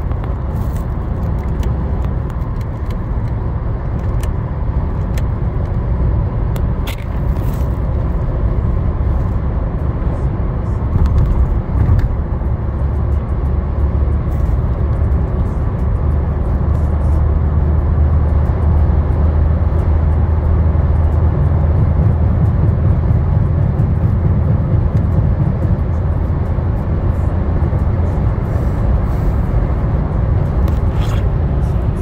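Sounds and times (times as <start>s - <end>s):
car engine and road drone: 0.0s - 32.0s.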